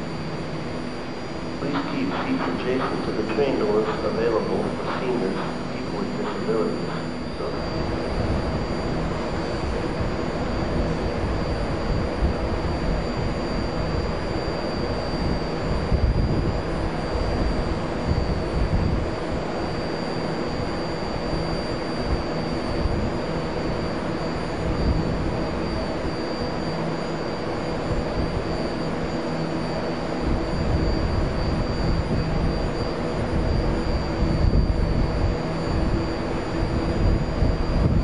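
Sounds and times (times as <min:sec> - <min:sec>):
train equipment and ventilation hum: 0:00.0 - 0:38.0.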